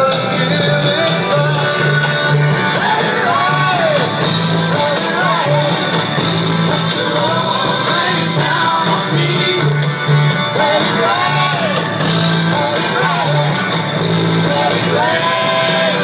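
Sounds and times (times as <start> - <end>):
repeating bass line: 0.0 - 16.0
rock and roll song with singing: 0.0 - 16.0.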